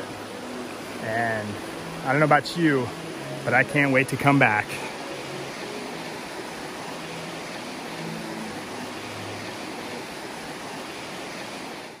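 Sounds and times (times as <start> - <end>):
river rushing over riffles: 0.0 - 12.0.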